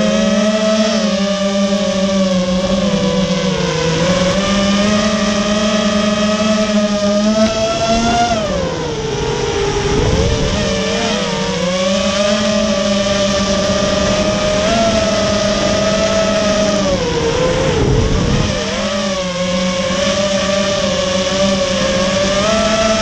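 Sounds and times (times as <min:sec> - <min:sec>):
drone motors whining: 0:00.0 - 0:23.0
low wind rumble: 0:01.6 - 0:23.0.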